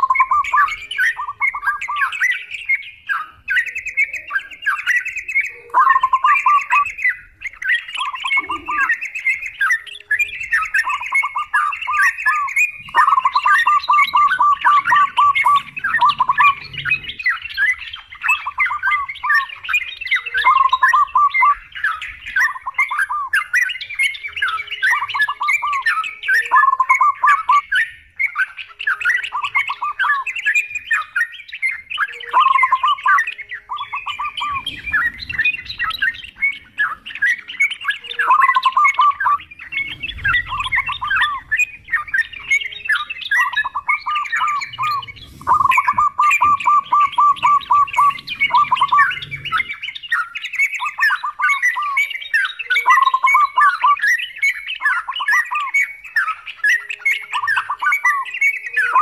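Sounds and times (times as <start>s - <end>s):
birds chattering and singing: 0.0s - 59.0s.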